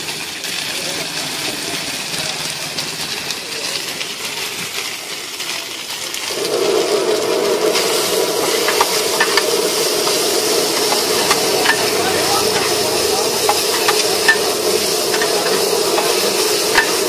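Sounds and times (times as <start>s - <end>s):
food sizzling on a griddle: 0.0s - 17.0s.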